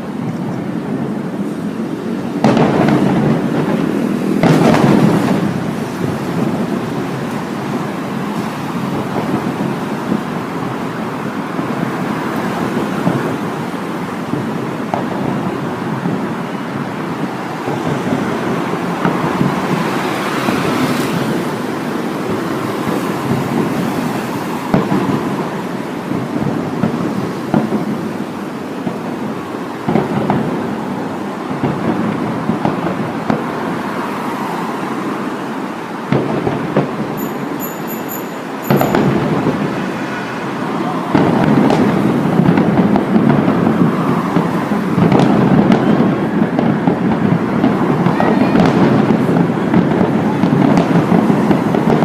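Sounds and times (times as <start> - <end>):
distant fireworks booming: 0.0 - 52.0
steady background noise: 0.0 - 52.0.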